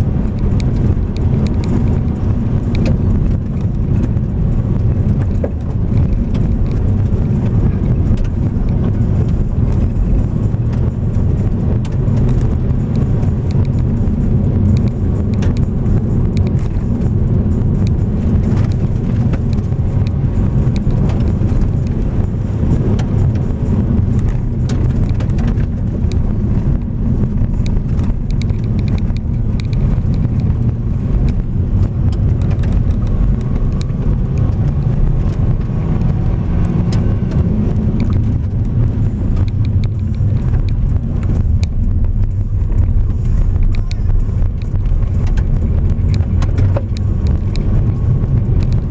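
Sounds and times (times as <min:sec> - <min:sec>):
car engine and tyres rumbling: 0:00.0 - 0:48.9
small ticks and knocks: 0:00.3 - 0:48.9.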